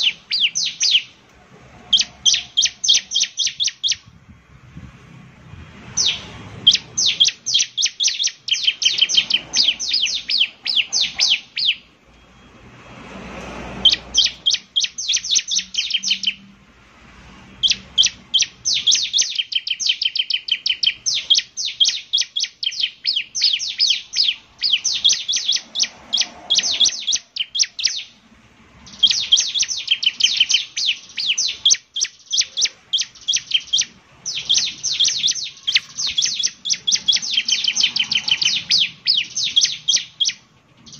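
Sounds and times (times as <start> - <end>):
bird chattering song: 0.0 - 1.2, 1.9 - 4.1, 5.8 - 12.0, 13.8 - 16.5, 17.6 - 40.9.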